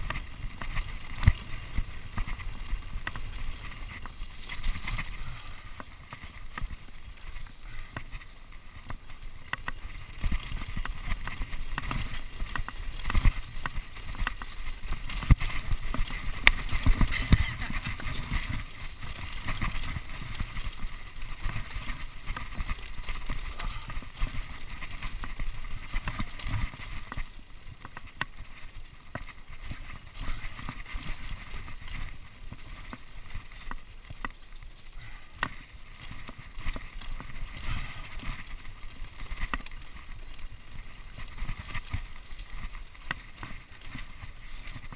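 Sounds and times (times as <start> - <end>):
bike tyres and frame rattling: 0.0 - 44.9.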